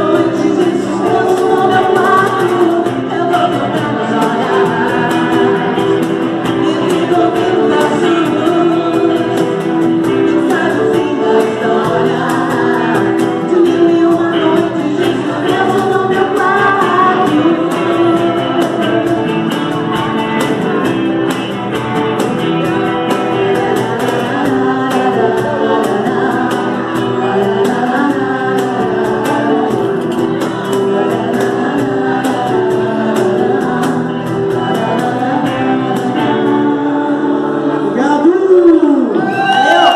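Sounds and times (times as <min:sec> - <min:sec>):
man singing: 0:00.0 - 0:20.9, 0:22.6 - 0:39.9
steady drum beat: 0:00.0 - 0:37.1
electric guitar: 0:00.0 - 0:39.9
woman singing lead: 0:00.0 - 0:39.9.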